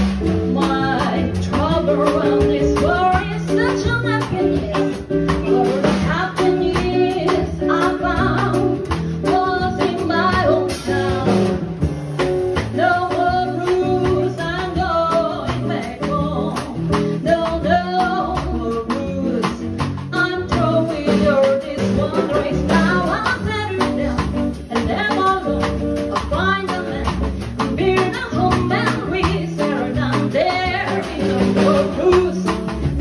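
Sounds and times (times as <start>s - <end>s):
light percussion beat: 0.0s - 33.0s
plucked guitar: 0.0s - 33.0s.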